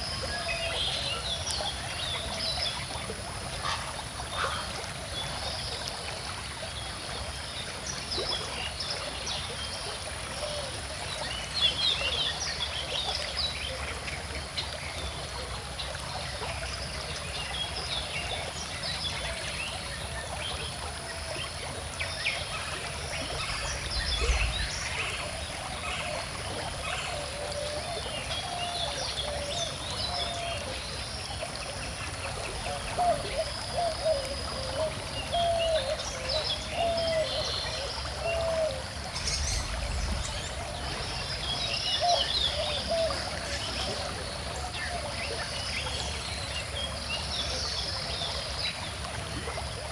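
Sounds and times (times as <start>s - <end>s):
river flowing: 0.0s - 49.9s.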